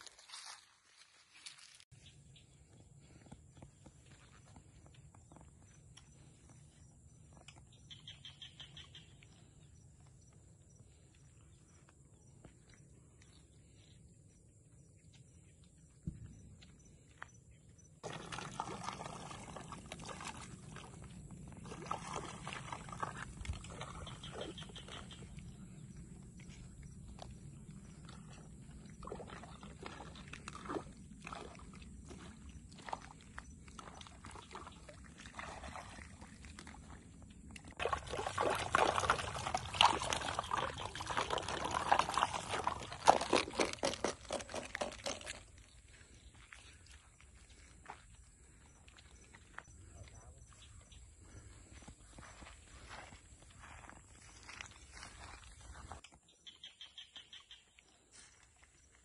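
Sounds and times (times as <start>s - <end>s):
water swishing and trickling: 0.0s - 17.0s, 17.8s - 56.3s, 57.2s - 59.0s.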